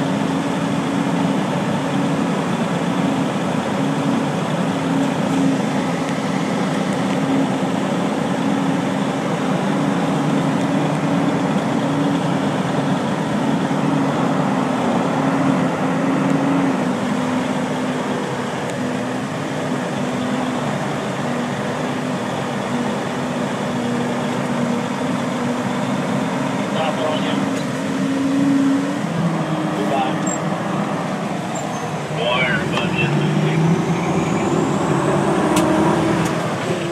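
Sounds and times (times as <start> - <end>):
truck engine: 0.0 - 36.9.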